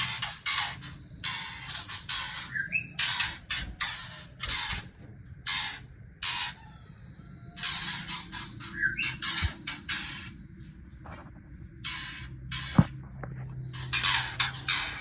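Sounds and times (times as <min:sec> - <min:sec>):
nestlings raspy begging calls: 0:00.0 - 0:10.6, 0:11.8 - 0:12.9, 0:13.6 - 0:15.0.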